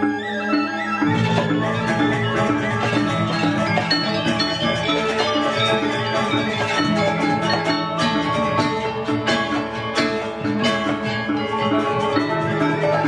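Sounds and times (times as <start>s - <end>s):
bamboo flutes: 0.0s - 13.0s
metallophones and gongs ringing: 0.0s - 13.0s
hand drums: 1.0s - 13.0s.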